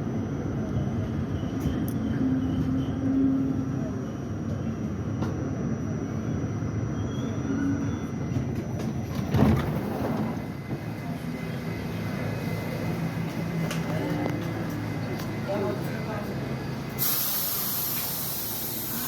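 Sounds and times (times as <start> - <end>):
subway train rumbling on tracks: 0.0 - 19.0.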